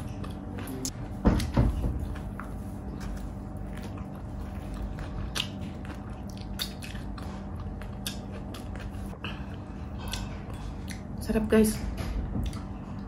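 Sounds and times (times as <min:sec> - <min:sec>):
person chewing with wet smacks: 0:00.0 - 0:01.5, 0:02.2 - 0:11.2, 0:12.4 - 0:13.0
faint steady hum: 0:00.0 - 0:13.0.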